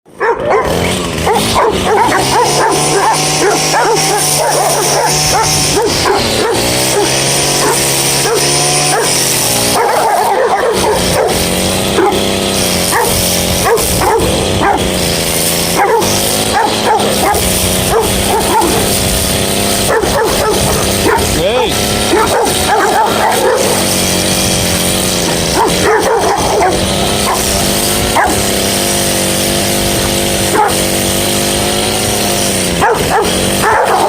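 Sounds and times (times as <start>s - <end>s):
dog barking and yipping: 0.1s - 34.0s.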